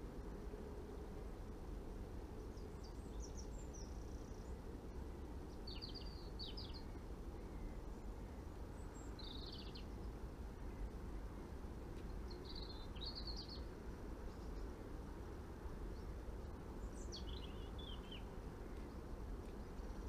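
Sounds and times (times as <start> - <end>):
low rushing background noise: 0.0 - 20.0
songbird chirping: 2.2 - 20.0.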